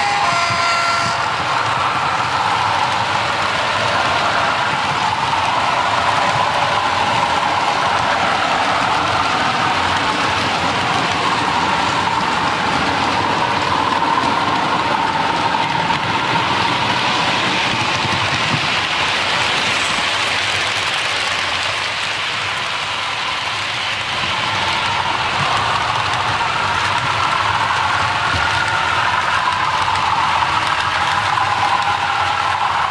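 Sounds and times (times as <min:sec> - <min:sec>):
model trains running: 0:00.0 - 0:32.9.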